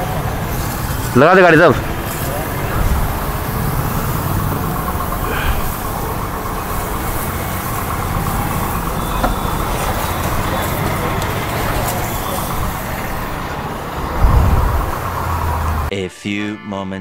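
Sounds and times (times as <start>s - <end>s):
road traffic noise: 0.0s - 15.9s
vehicle engine rumble: 0.0s - 15.9s.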